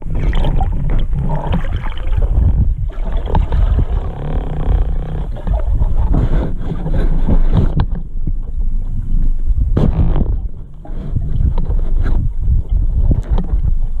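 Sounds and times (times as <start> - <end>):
underwater water rumble: 0.0 - 14.0.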